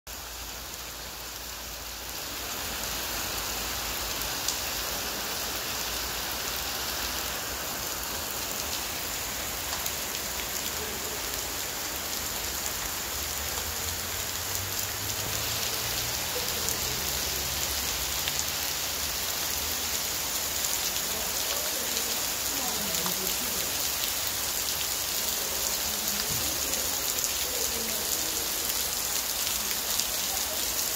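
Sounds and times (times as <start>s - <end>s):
rain falling on ground: 0.1s - 30.9s.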